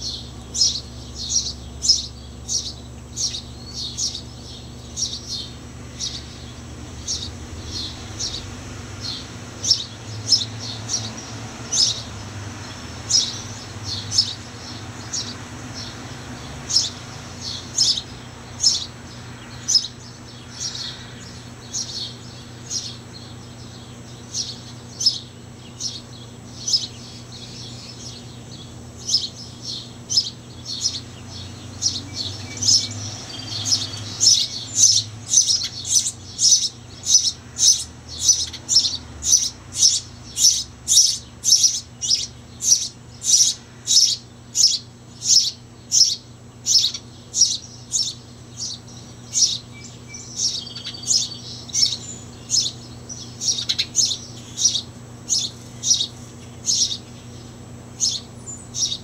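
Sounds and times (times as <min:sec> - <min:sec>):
sparrow chirping: 0:00.0 - 0:59.0.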